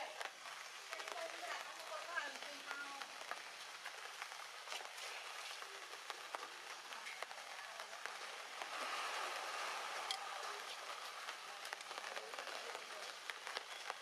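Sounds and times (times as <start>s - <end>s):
water drops pattering on leaves: 0.0s - 14.0s.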